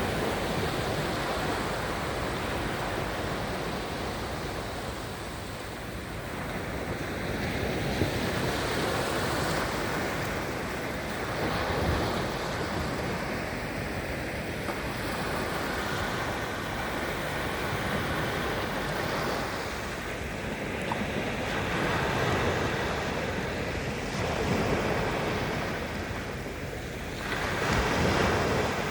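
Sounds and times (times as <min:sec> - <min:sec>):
sea waves washing onto shore: 0:00.0 - 0:28.9.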